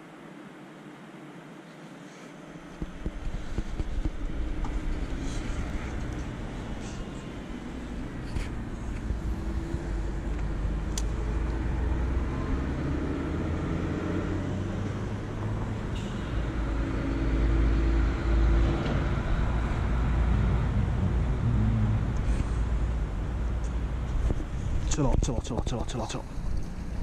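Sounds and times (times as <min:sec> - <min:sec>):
road traffic rumble: 0:02.5 - 0:27.0.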